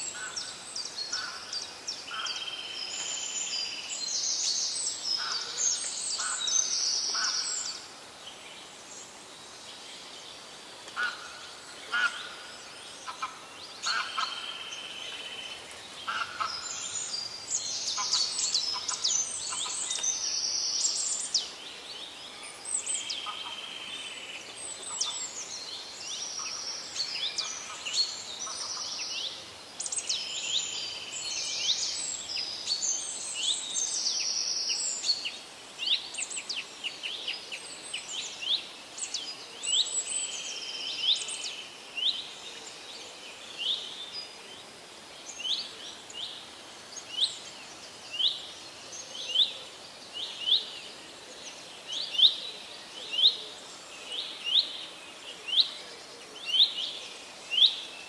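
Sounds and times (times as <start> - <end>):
birds chirping and trilling: 0.0 - 58.0
faint steady hiss: 0.0 - 58.0.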